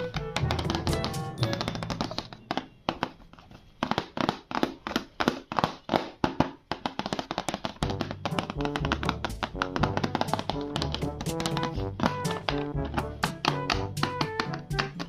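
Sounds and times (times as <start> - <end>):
background music with sharp taps: 0.0 - 15.0.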